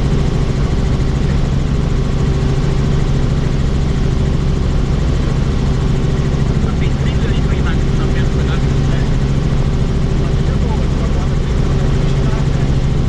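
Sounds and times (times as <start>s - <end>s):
helicopter rotor and engine drone: 0.0s - 13.0s.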